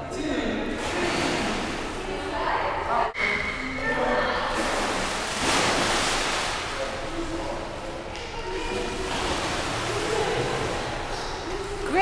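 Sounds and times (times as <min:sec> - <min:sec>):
pool water splashing: 0:00.7 - 0:02.8, 0:03.4 - 0:12.0.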